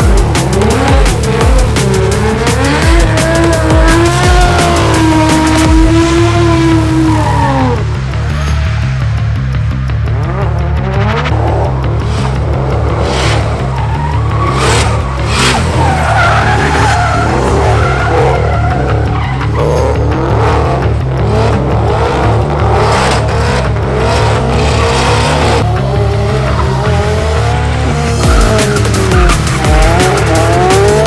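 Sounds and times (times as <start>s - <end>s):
tyres squealing and skidding: 0.0s - 9.4s, 11.2s - 31.0s
car engines revving hard: 0.0s - 31.0s
music with bass beat: 0.0s - 31.0s.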